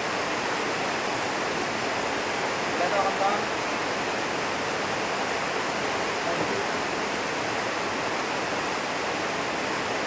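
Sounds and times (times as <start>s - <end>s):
heavy rain downpour: 0.0s - 10.0s.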